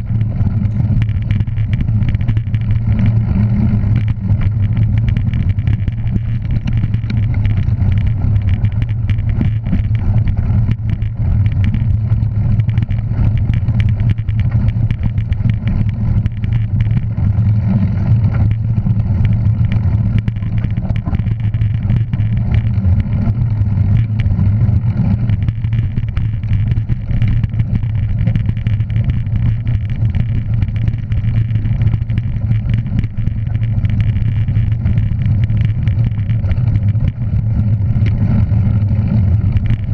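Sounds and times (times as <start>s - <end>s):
engine running steadily: 0.0s - 39.9s
rumbling and crackling noise: 0.0s - 39.9s.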